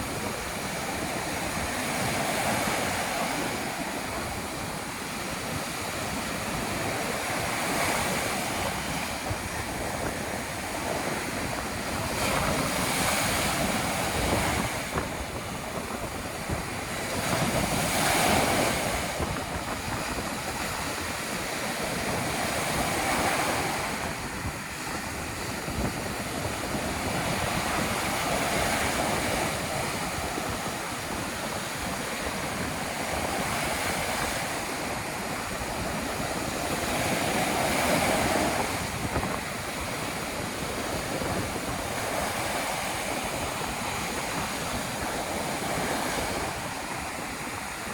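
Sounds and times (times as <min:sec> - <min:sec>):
ocean waves washing in: 0:00.0 - 0:47.9
wind blowing across microphone: 0:00.0 - 0:47.9.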